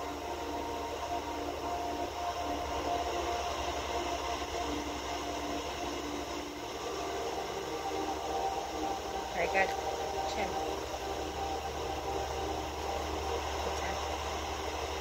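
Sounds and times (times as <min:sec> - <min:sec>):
low hum: 0:00.0 - 0:15.0
soft soothing background music: 0:00.0 - 0:15.0
steady hiss: 0:00.0 - 0:15.0.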